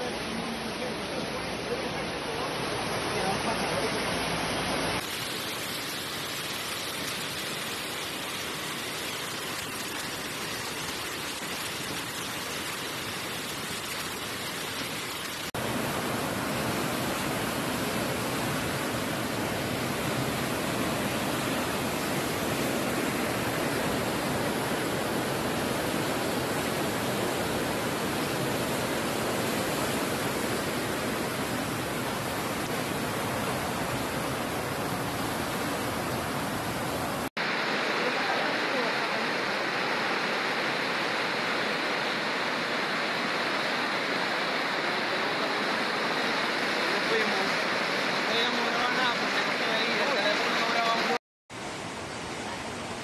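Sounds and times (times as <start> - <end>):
floodwater rushing: 0.0 - 53.0.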